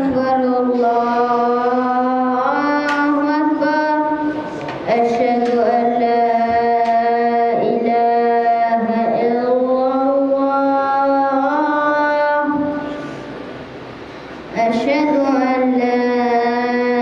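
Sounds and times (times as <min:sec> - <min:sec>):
boy chanting into microphone: 0:00.0 - 0:13.2, 0:14.5 - 0:17.0.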